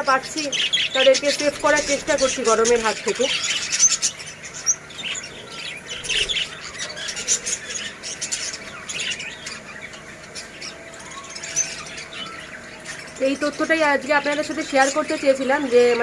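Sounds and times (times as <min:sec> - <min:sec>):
budgerigars chirping and squawking: 0:00.0 - 0:16.0.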